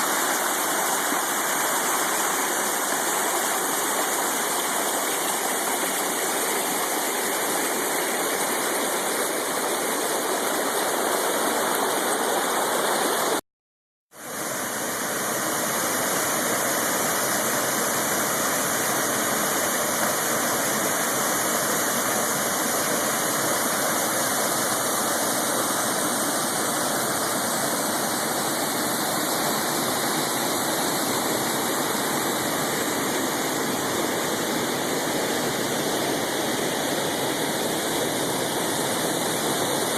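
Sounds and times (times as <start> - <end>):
waterfall rushing: 0.0 - 13.4, 14.2 - 39.9.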